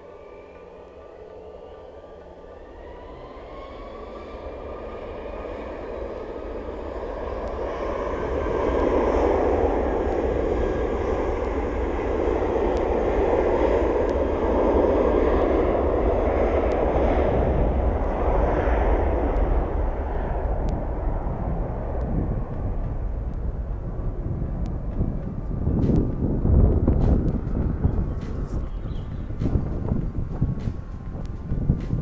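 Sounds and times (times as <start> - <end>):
faint whine sliding in pitch: 0.0 - 32.0
jet airliner taking off: 0.0 - 32.0.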